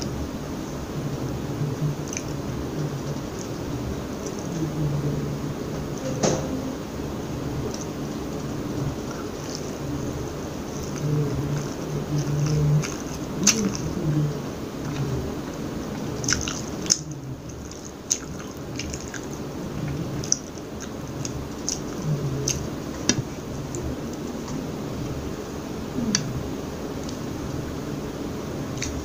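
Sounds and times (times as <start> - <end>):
chewing food: 1.8 - 4.8, 7.7 - 27.6, 28.6 - 29.0.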